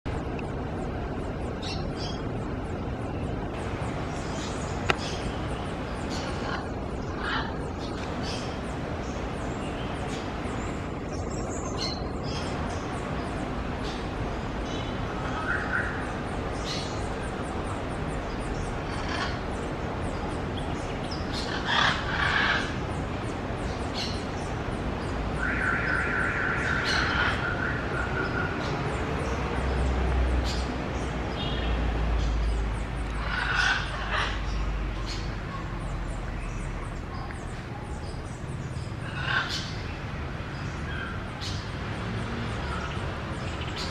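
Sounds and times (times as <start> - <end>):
birds chirping: 0.1 - 43.9
steady background rumble: 0.1 - 43.9.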